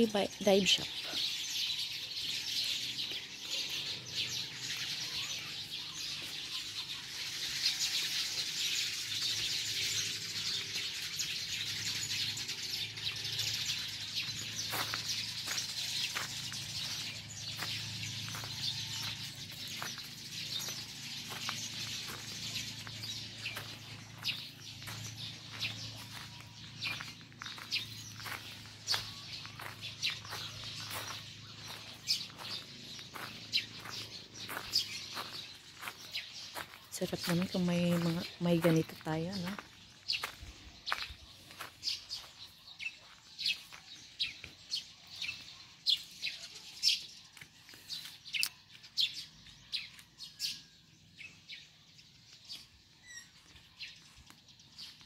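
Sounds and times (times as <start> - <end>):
footsteps on a path: 0.0 - 50.3, 52.3 - 55.0
birds chirping: 0.0 - 55.0.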